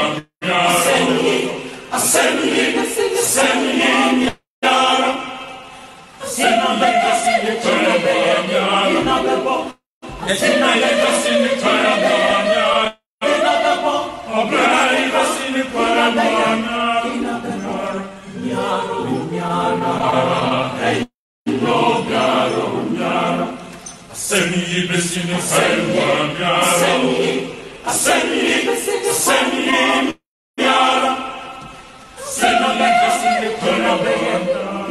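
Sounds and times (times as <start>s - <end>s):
voices chanting: 0.0s - 5.4s, 6.2s - 34.9s.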